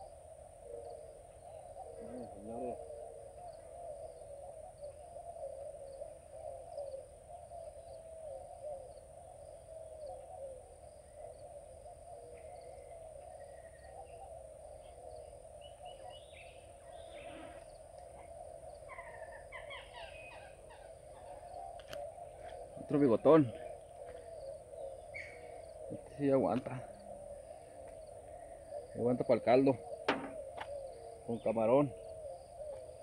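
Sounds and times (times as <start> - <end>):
chorus of animal calls: 0.0 - 33.0.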